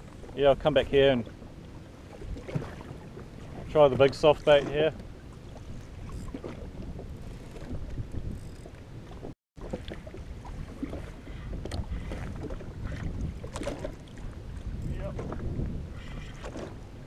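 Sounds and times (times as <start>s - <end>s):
water lapping against hull: 0.0s - 17.0s
wind buffeting microphone: 0.0s - 17.0s.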